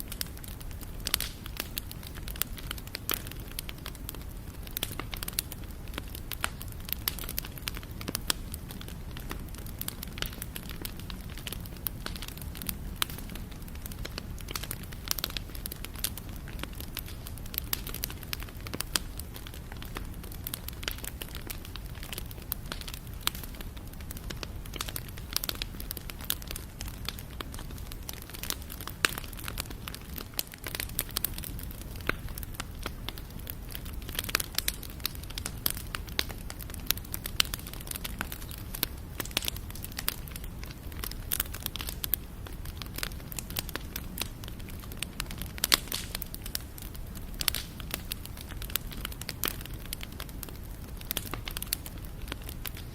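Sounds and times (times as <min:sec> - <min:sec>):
campfire crackling and popping: 0:00.0 - 0:52.9
low rumble of flame: 0:00.0 - 0:52.9.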